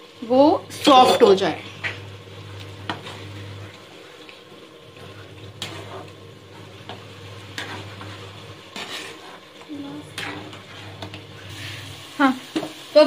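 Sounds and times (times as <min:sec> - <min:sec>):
spatula stirring noodles in pan: 0:00.0 - 0:13.0.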